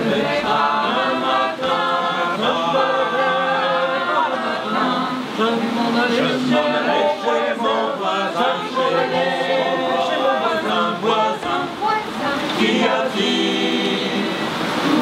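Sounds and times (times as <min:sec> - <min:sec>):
men and women singing in chorus: 0:00.0 - 0:15.0.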